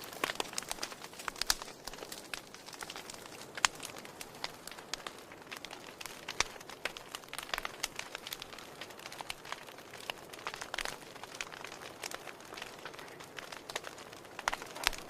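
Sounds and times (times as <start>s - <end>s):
fire crackling and popping: 0.0s - 15.0s
soft steady hiss: 0.0s - 15.0s.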